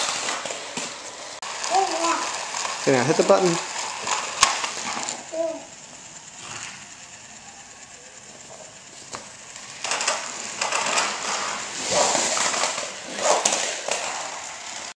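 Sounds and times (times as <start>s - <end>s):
toy truck motors whirring: 0.0s - 14.9s.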